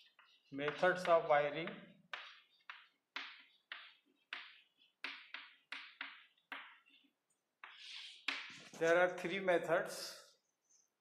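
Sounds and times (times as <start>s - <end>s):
chalk scratching on chalkboard: 0.0s - 8.8s.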